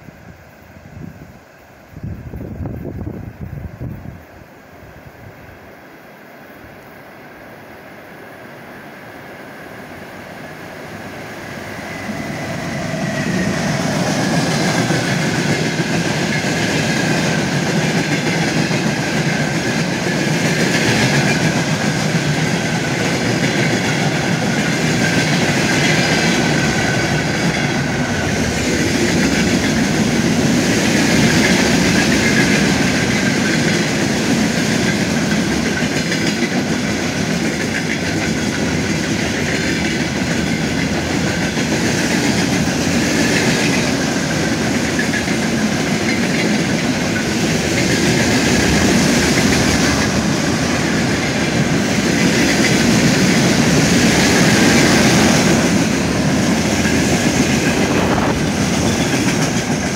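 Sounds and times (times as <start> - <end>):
train wheels rumbling on rails: 8.7 - 59.9.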